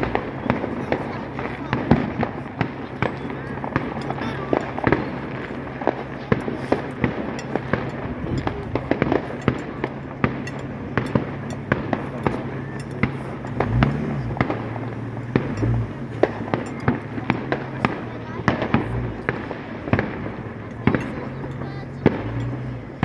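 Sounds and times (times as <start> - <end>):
fireworks bangs and crackles: 0.0 - 23.0
rumble of distant fireworks: 0.0 - 23.0.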